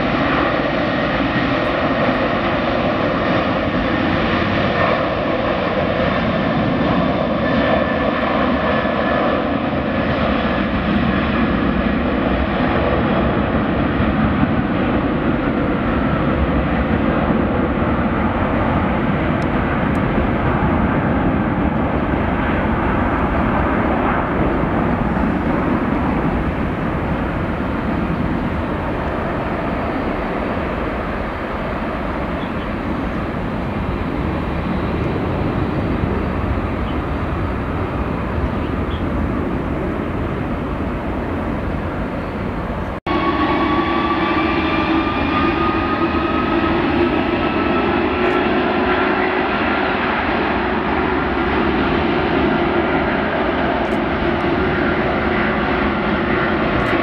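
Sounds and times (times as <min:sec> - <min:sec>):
jet airliner engine roar: 0:00.0 - 0:57.0
jet engine whine: 0:00.0 - 0:57.0.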